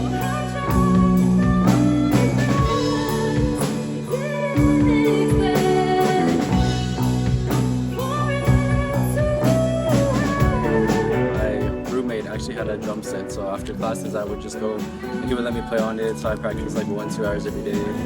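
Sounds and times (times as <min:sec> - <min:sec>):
person singing: 0:00.0 - 0:07.1, 0:07.9 - 0:18.0
bass and drums: 0:00.0 - 0:18.0
electric guitar lines: 0:00.0 - 0:18.0.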